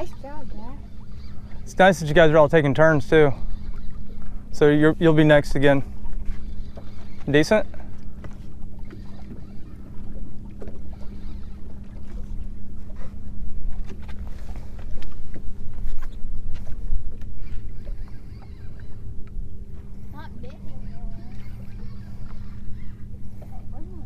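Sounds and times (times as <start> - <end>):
low electric hum: 0.0 - 24.0
low wind rumble: 0.0 - 24.0.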